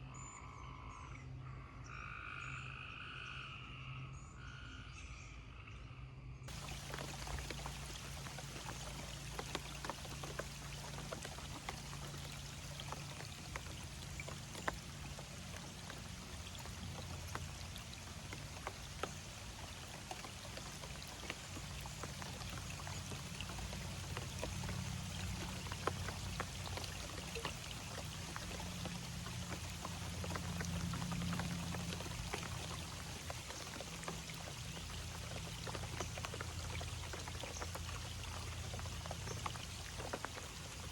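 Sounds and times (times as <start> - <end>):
sharp drip-like clicks: 6.5 - 40.9
water splashing and trickling: 6.5 - 40.9.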